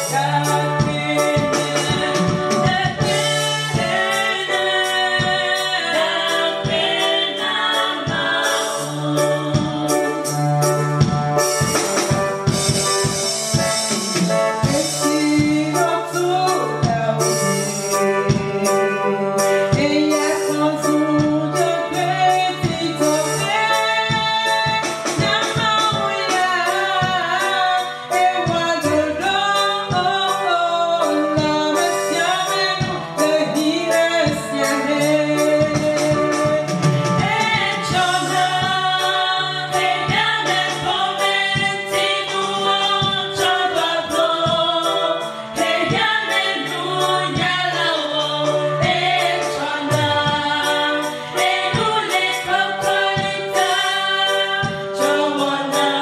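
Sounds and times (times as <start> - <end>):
women singing harmony: 0.0 - 10.7, 14.7 - 56.0
woman singing lead: 0.0 - 10.8, 14.6 - 56.0
electronic keyboard with beat: 0.0 - 56.0.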